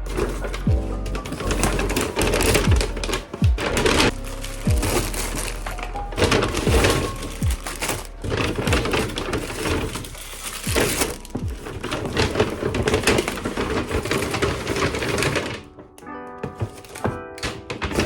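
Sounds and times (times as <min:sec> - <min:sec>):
packaging crunching and rustling: 0:00.0 - 0:18.0.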